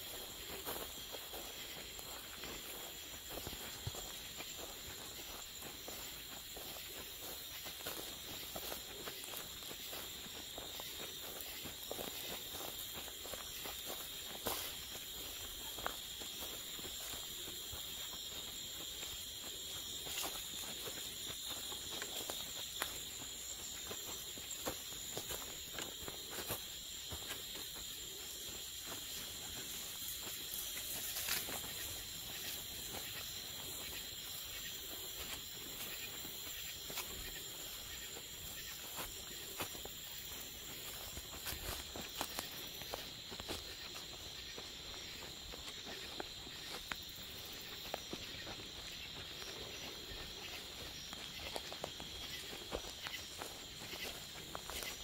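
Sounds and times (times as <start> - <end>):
footsteps on leaves and twigs: 0.0 - 55.0
night insects chorus: 0.0 - 55.0
steps and rustles in grass: 0.0 - 55.0.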